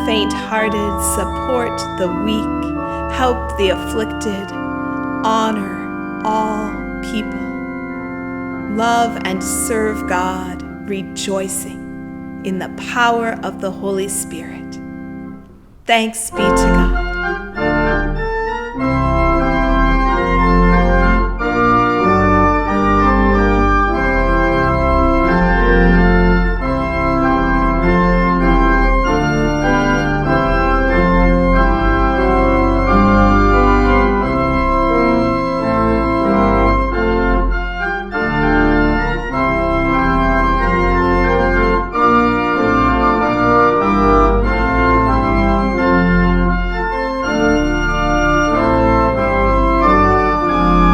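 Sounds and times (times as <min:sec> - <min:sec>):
organ playing sustained chords: 0:00.0 - 0:50.9.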